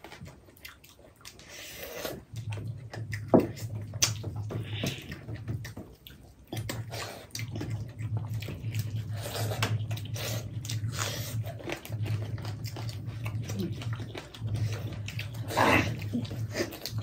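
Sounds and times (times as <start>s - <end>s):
chewing: 0.0s - 17.0s
low steady hum: 0.0s - 17.0s.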